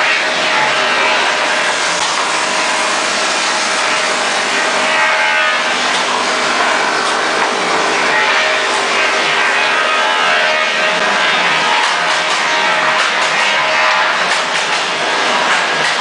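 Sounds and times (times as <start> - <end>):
workshop machinery running: 0.0 - 16.0.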